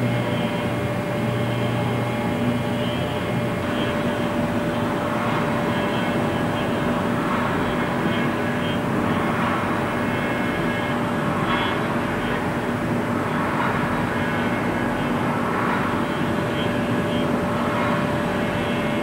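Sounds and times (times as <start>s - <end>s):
milling spindle drone: 0.0s - 19.0s.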